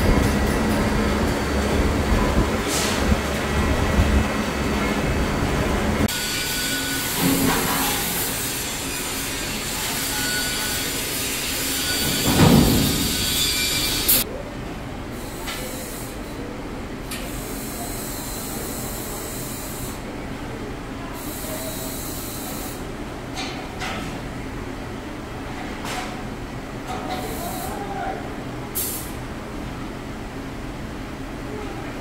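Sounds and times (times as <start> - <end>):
workshop machinery hiss and rumble: 0.0 - 32.0.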